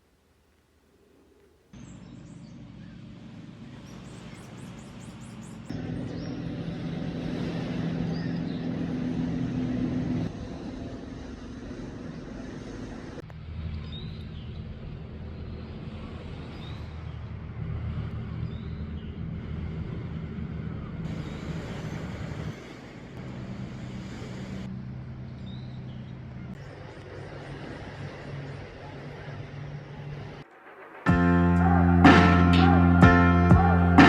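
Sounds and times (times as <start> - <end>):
vehicle engine hum: 1.4 - 34.0.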